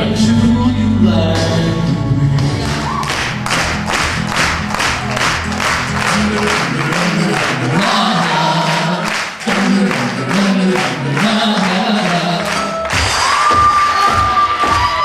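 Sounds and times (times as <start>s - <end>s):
live country band with singing: 0.0s - 3.5s, 5.9s - 15.0s.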